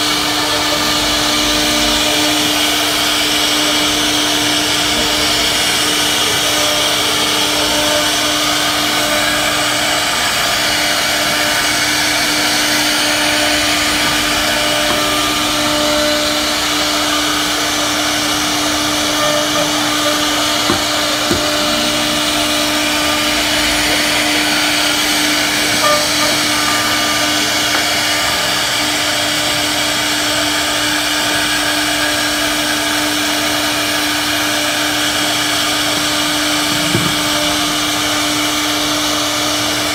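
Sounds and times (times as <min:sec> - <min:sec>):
router spindle milling wood: 0:00.0 - 0:39.9.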